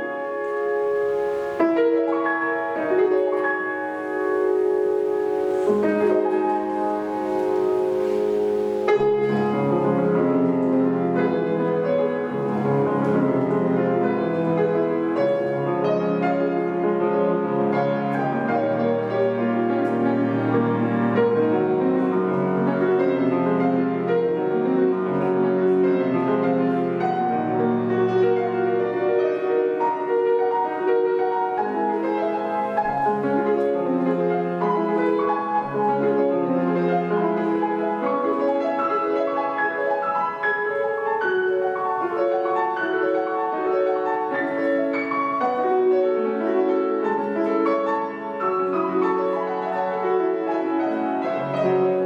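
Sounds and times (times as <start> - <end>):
solo piano classical piece: 0.0 - 52.0.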